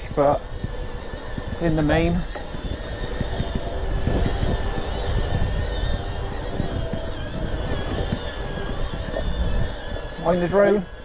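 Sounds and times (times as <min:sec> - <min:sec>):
bicycle tyre rumble: 0:00.0 - 0:11.0
camera drone whine: 0:00.0 - 0:11.0
wind buffeting microphone: 0:00.0 - 0:11.0.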